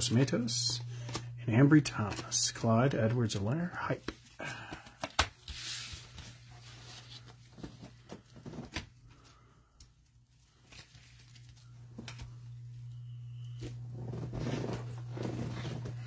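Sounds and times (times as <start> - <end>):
steady low hum: 0.0 - 10.2, 10.9 - 16.0
trading cards being handled: 0.2 - 16.0.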